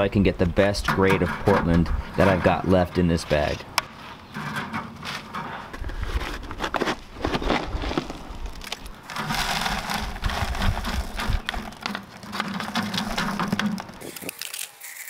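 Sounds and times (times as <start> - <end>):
trowel scraping cement in a tub: 0.7 - 15.0.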